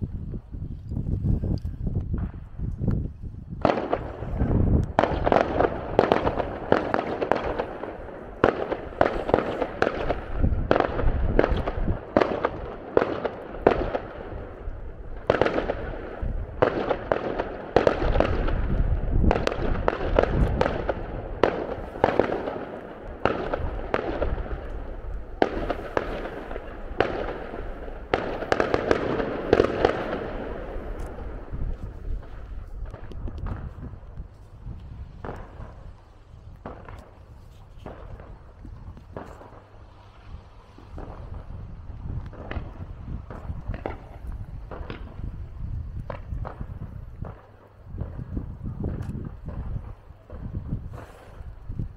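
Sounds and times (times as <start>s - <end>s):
fireworks bangs and crackling: 1.6s - 51.9s.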